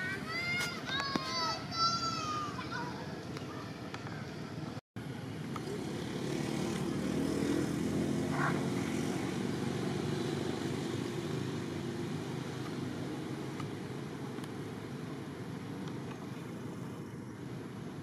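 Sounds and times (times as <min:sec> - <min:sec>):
engine droning: 0:01.7 - 0:18.0.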